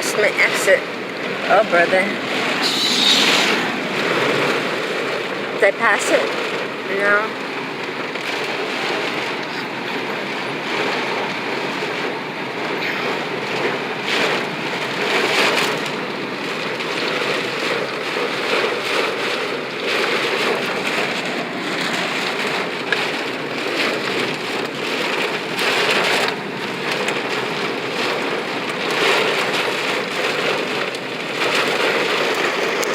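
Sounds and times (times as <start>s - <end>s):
heavy rain on a car: 0.0s - 32.9s
tyres on wet road: 0.0s - 32.9s.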